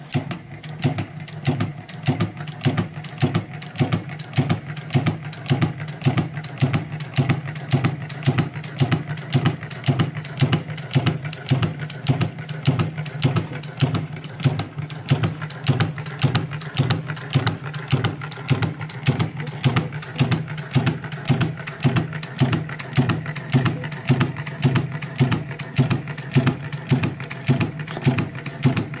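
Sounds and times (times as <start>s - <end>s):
low machine hum: 0.0s - 29.0s
sewing machine clatter: 0.0s - 29.0s.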